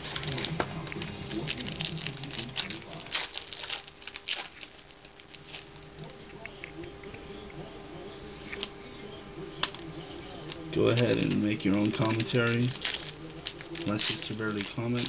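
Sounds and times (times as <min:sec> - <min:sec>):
trading cards rustling and clicking: 0:00.0 - 0:07.2, 0:09.6 - 0:15.0.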